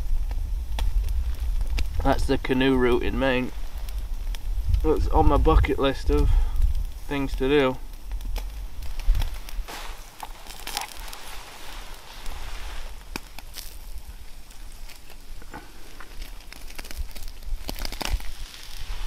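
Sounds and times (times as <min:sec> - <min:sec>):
campfire coals crackling: 0:00.0 - 0:19.0.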